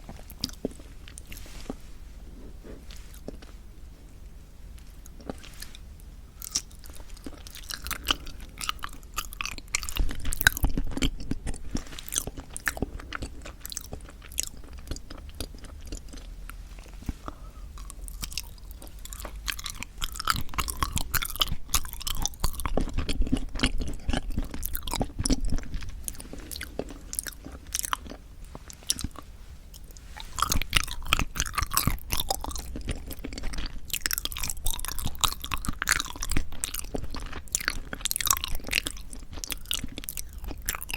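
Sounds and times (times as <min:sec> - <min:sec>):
close chewing mouth clicks: 0:06.4 - 0:40.9.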